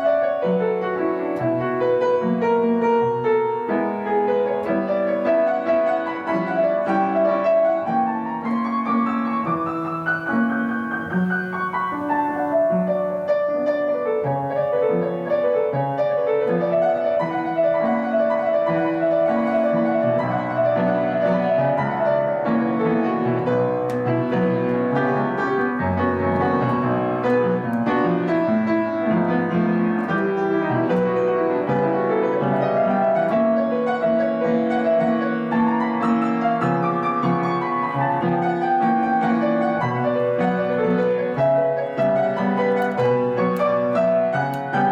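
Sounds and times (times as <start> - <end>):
jazz piano runs: 0.0 - 44.9.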